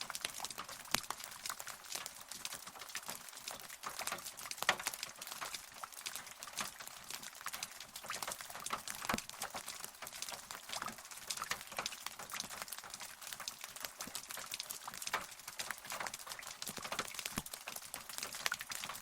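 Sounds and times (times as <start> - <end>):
rain drops pattering: 0.0 - 19.0.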